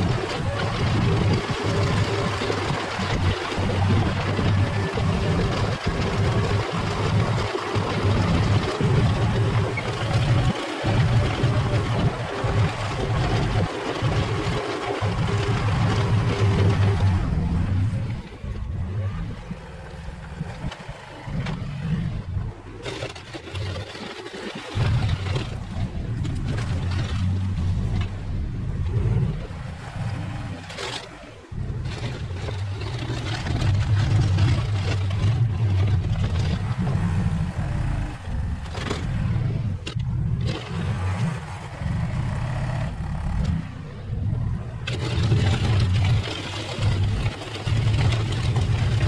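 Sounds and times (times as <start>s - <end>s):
earth-moving machine engine: 0.0s - 49.0s.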